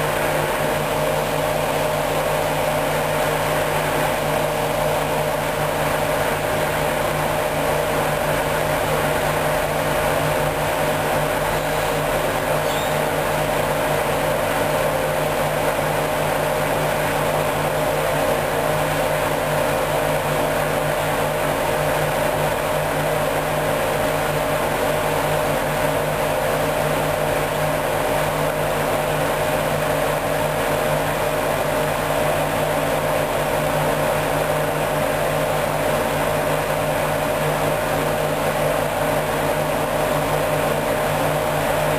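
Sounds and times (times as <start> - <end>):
washing machine humming: 0.0 - 41.9.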